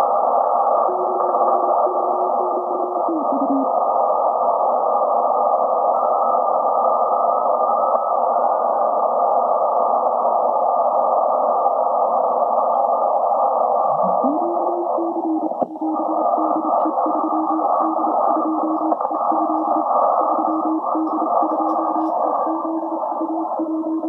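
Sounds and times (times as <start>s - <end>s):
radio receiver hiss: 0.0s - 24.0s.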